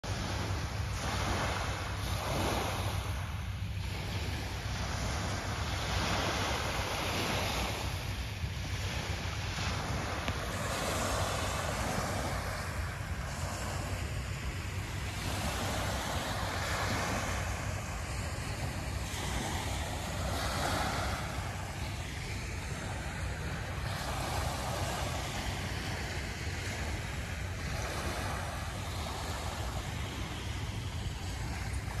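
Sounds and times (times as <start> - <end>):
wind rumble on microphone: 0.0 - 32.0
waves lapping on pebbly shore: 0.1 - 32.0.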